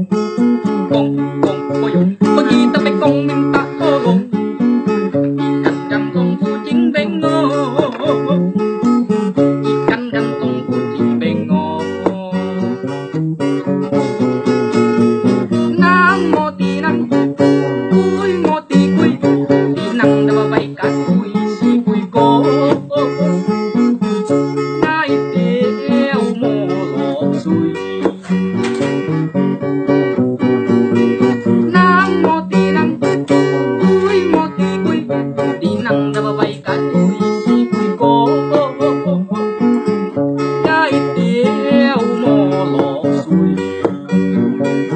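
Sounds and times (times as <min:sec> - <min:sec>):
acoustic guitar strumming: 0:00.0 - 0:44.9
man singing: 0:00.4 - 0:13.0, 0:15.5 - 0:28.4, 0:31.4 - 0:40.0, 0:40.6 - 0:44.2.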